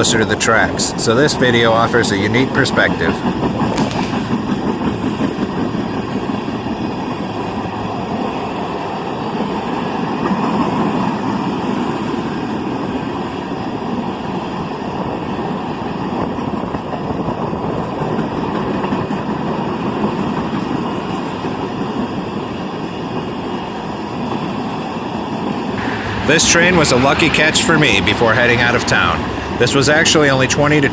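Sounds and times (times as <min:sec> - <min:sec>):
freight train wheels rumbling on rail: 0:00.0 - 0:30.9.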